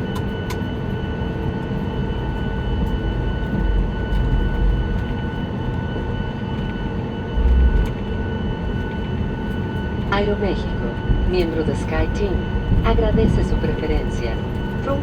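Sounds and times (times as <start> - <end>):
aircraft cabin rumble: 0.0 - 15.0
jet engines whining at idle: 0.0 - 15.0.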